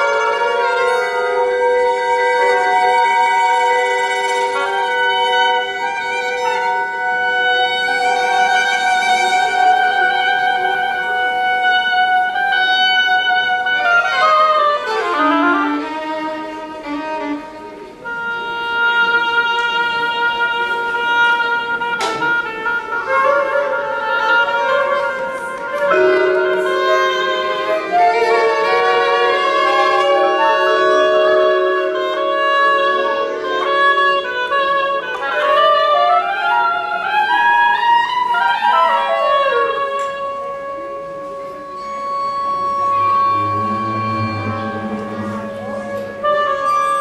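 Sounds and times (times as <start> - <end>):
bowed strings: 0.0 - 18.9, 20.6 - 47.0
flute: 0.0 - 47.0
oboe: 0.0 - 47.0.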